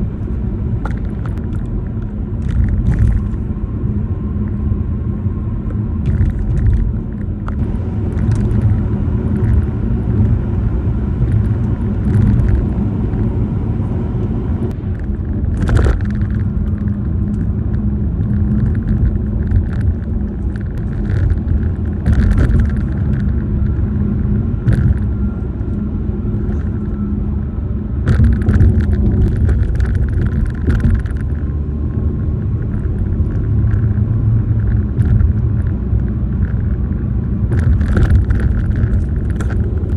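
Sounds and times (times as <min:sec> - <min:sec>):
car tyres rumbling over grooved pavement: 0:00.0 - 0:39.9.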